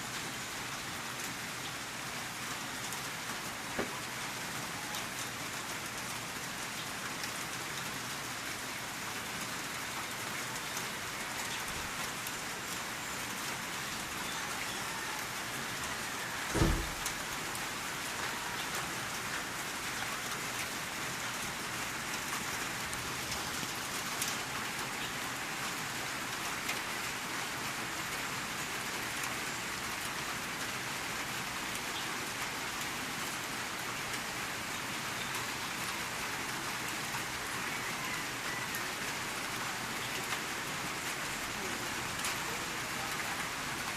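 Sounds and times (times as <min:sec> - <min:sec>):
rain hissing: 0:00.0 - 0:43.9.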